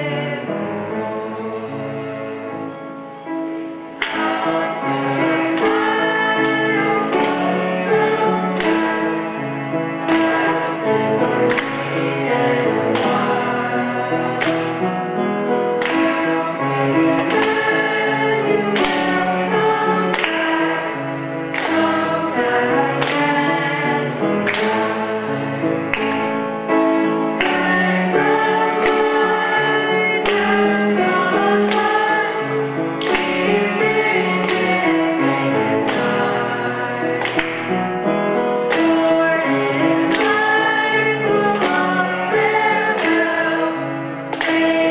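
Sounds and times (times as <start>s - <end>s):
cello: 0.0s - 44.9s
young voices singing: 0.0s - 44.9s
hand claps: 3.9s - 15.0s, 15.6s - 25.2s, 25.8s - 37.8s, 38.6s - 44.9s.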